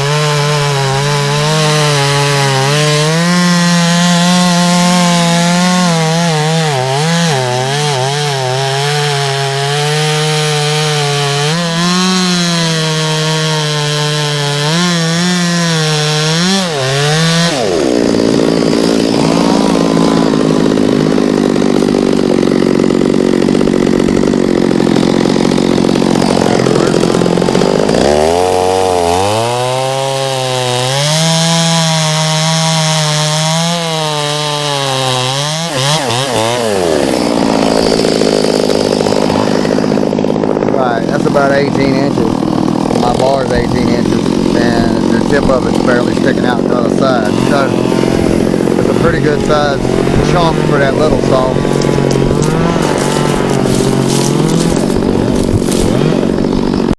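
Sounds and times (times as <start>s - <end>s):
chainsaw cutting through trunk: 0.0s - 56.9s.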